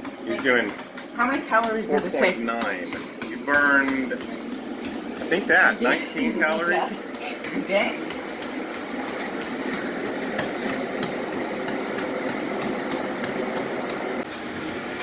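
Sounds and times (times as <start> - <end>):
exercise machine running: 0.0 - 15.0.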